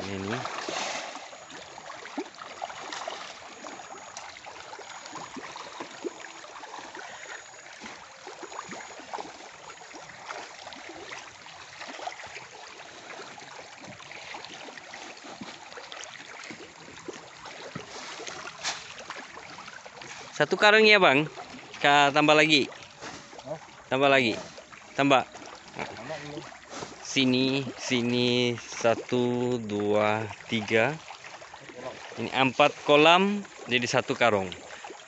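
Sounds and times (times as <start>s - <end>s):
fish splashing at water surface: 0.0s - 20.4s, 22.7s - 33.7s.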